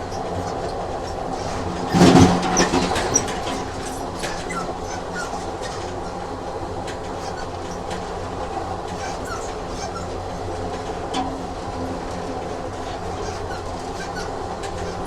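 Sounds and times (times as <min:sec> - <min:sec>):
loud train clatter: 0:00.0 - 0:15.0
train rumbling on rails: 0:00.0 - 0:15.0
wheels clicking over track: 0:00.0 - 0:15.0.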